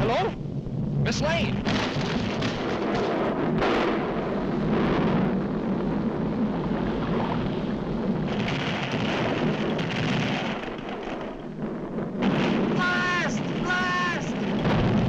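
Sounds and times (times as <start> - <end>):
cartoon volcano eruption roar: 0.0 - 15.0.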